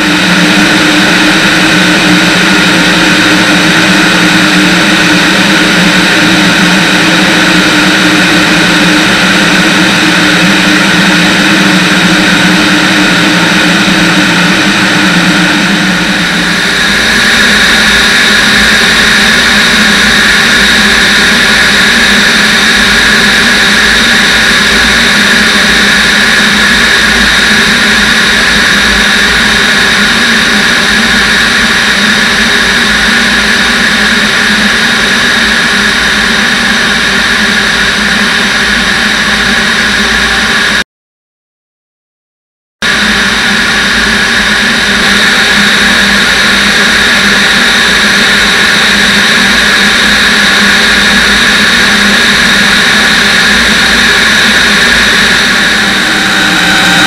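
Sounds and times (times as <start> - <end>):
aircraft engine and propeller drone: 0.0 - 40.8, 42.8 - 57.0
airflow noise: 0.0 - 40.8, 42.8 - 57.0.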